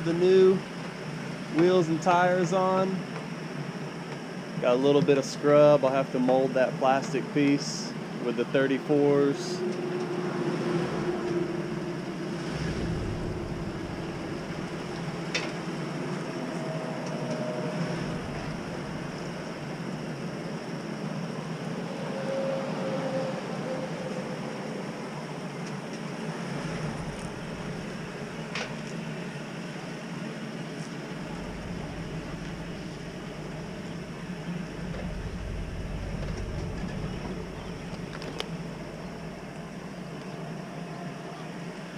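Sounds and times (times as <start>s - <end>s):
pickup truck rolling slowly: 0.0s - 21.9s, 24.9s - 41.9s.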